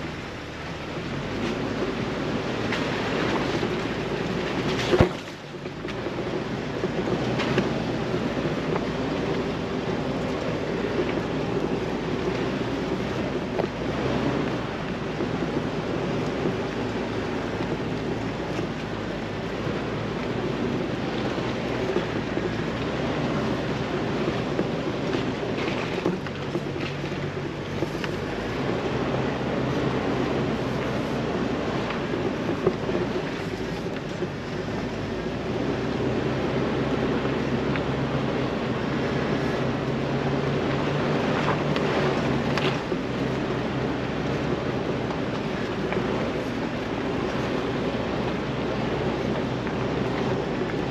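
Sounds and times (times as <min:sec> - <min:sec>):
engine drone: 0:00.0 - 0:50.9
tyres on gravel: 0:00.0 - 0:50.9.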